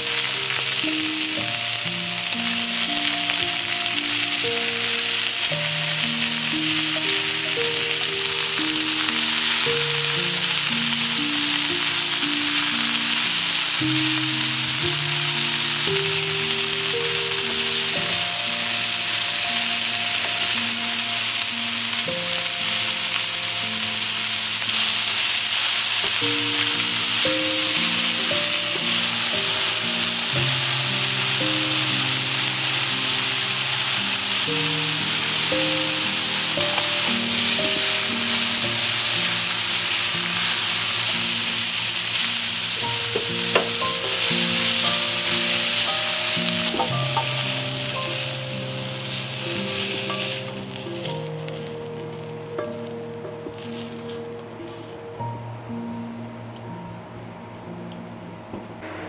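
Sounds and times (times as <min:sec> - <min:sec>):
food sizzling in a skillet: 0:00.0 - 0:55.0.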